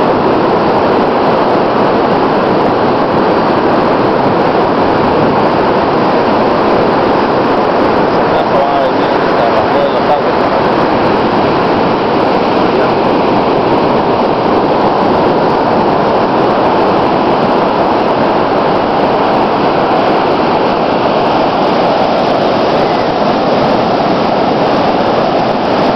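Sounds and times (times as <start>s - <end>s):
ocean surf roaring: 0.0s - 25.9s
wind on microphone: 0.0s - 25.9s.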